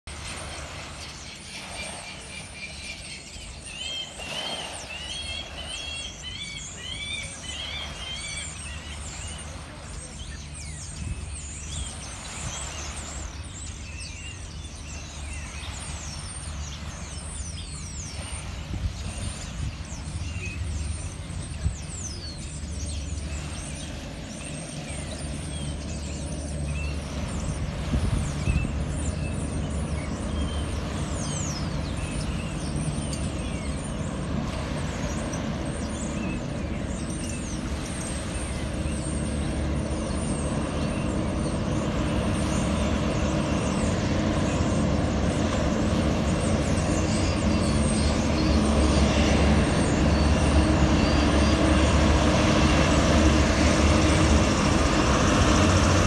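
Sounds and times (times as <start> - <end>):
birds chirping faintly: 0.1 - 56.0
hovercraft engines droning: 0.1 - 56.0.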